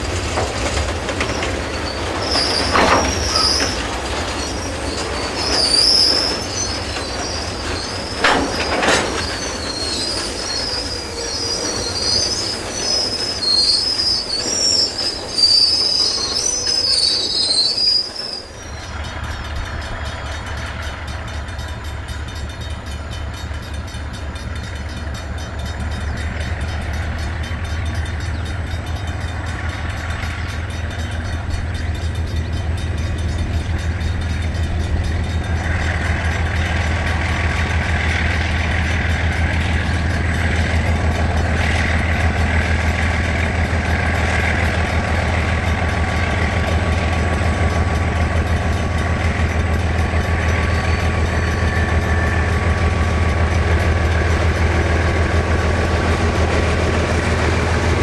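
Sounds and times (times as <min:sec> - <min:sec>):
diesel locomotive rumbling: 0:00.0 - 0:58.0
train rumble: 0:00.0 - 0:58.0
train wheels squealing on track: 0:00.0 - 0:58.0.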